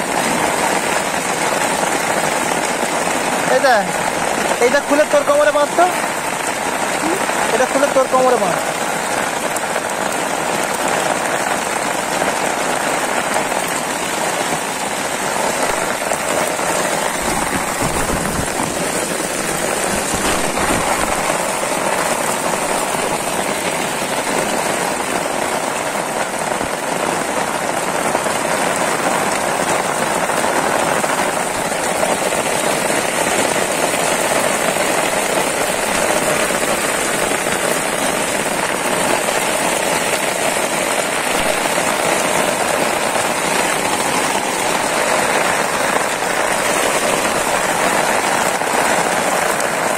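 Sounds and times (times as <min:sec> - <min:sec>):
heavy rain on water: 0:00.0 - 0:49.9.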